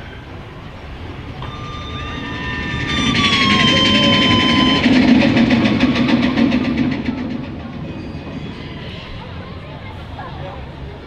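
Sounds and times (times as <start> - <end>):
roller coaster rumbling on track: 0.0 - 11.0
steady high tone: 0.1 - 9.6.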